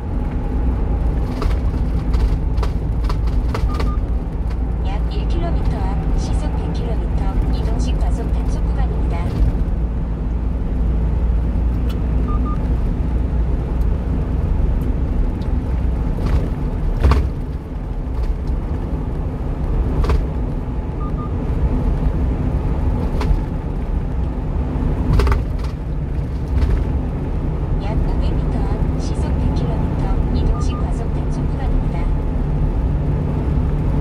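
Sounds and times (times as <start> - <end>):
truck engine and tyre rumble: 0.0 - 34.0.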